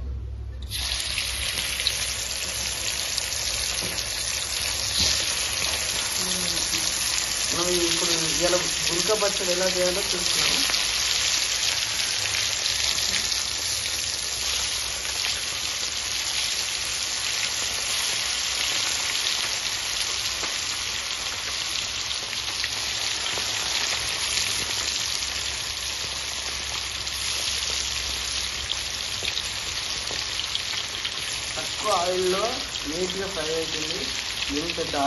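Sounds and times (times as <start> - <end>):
fish deep-frying in hot oil: 0.6 - 35.0.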